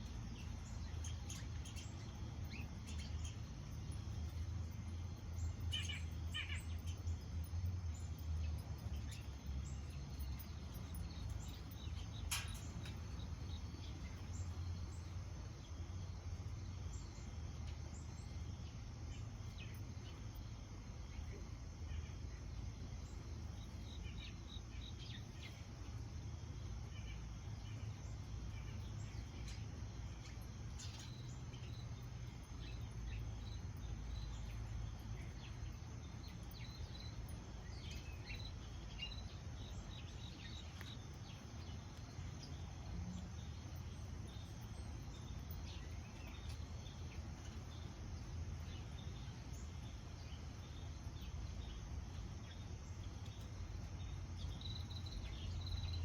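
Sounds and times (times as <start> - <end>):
low background rumble: 0.0 - 56.0
small birds chirping: 0.0 - 56.0.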